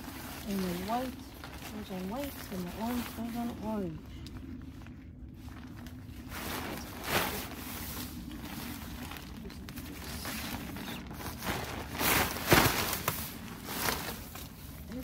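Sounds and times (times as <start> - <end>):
tent fabric rustling: 0.0 - 4.0, 4.6 - 15.0
steady low hum: 0.0 - 15.0.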